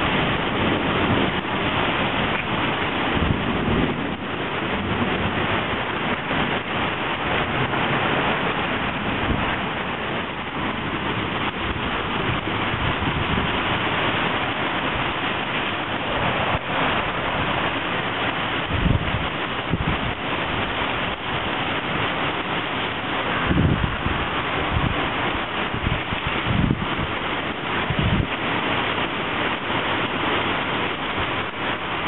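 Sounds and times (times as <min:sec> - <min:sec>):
rain pouring on a street: 0:00.0 - 0:32.0
wind buffeting microphone: 0:00.0 - 0:32.0.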